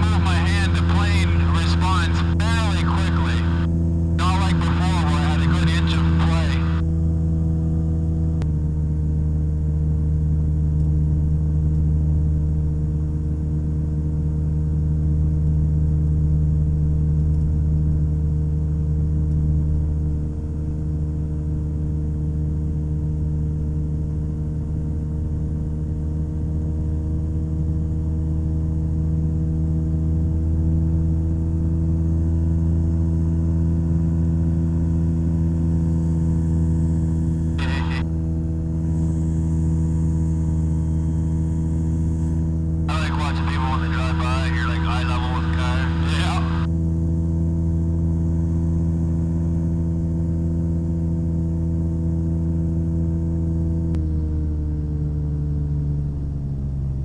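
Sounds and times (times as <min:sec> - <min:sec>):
ultralight engine droning: 0:00.0 - 0:57.0.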